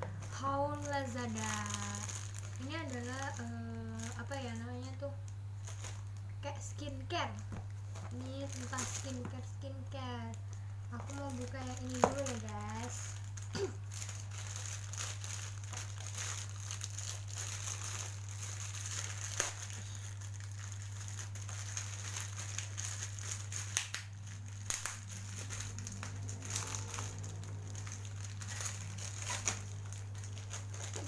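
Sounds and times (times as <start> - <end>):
packaging crinkling and rustling: 0.0 - 31.0
steady low hum: 0.0 - 31.0.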